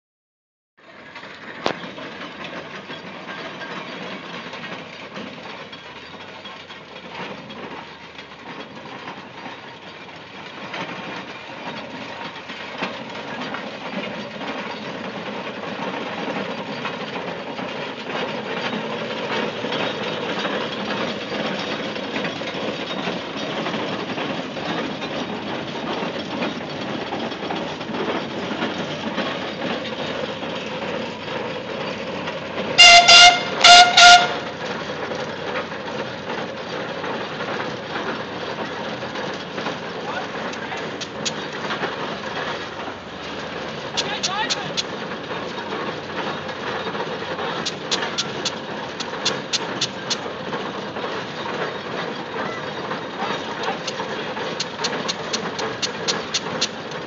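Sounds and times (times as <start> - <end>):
steam roller engine running: 0.8 - 57.0.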